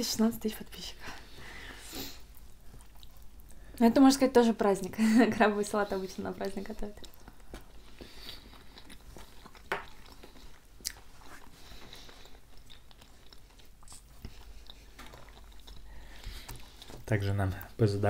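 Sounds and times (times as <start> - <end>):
chewing with wet mouth sounds: 1.2 - 3.9, 5.4 - 17.8.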